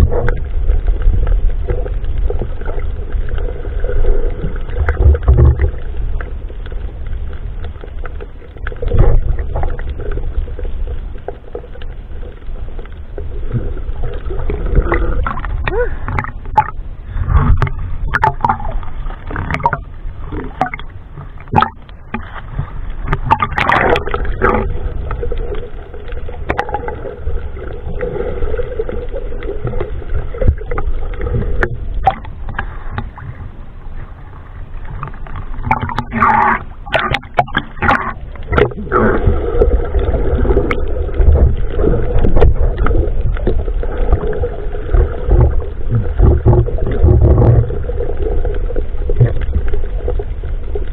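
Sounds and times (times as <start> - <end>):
sea water sloshing and bubbling: 0.0 - 50.9
steady low rumble: 0.0 - 50.9
water splashes: 0.0 - 50.9.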